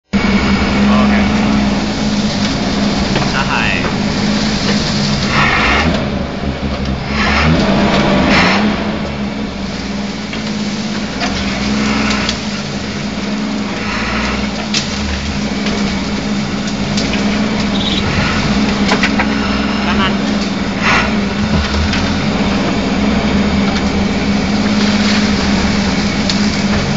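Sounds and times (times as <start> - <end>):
vehicle engine rumbling: 0.0 - 26.9
vehicle knocks and rattles: 0.7 - 26.9.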